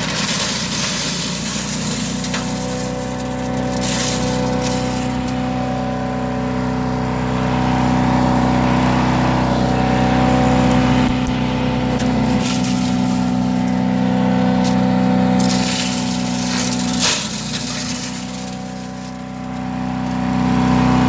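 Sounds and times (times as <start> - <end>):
branch crackling in shredder: 0.0 - 21.0
chipper shredder engine running: 0.0 - 21.0.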